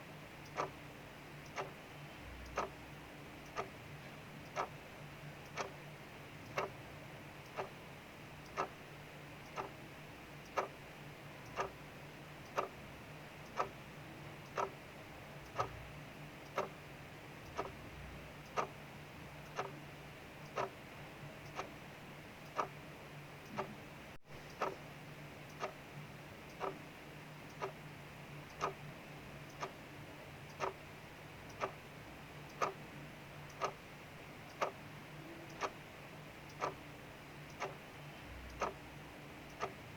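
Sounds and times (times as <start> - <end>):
mechanical clock ticking: 0.3 - 39.9.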